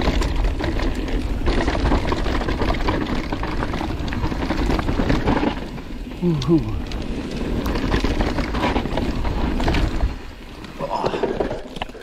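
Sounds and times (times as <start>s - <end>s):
bike rattling over bumps: 0.0s - 12.0s
bike tyres rumbling on dirt: 0.0s - 12.0s
wind: 0.0s - 12.0s.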